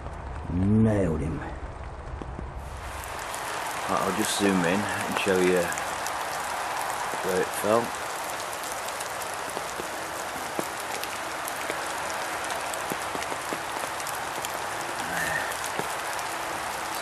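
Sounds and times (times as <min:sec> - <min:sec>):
steady rain hiss: 0:00.0 - 0:17.0
water drip ticks: 0:03.0 - 0:17.0.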